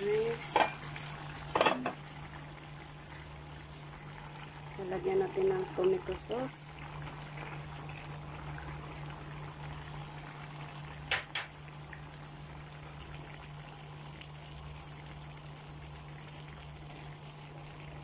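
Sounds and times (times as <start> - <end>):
sauce bubbling in a pan: 0.0 - 18.0.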